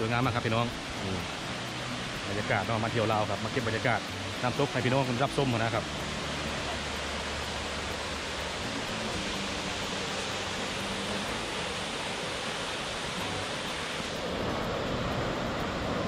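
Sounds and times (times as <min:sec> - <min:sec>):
waterfall pouring: 0:00.0 - 0:16.0.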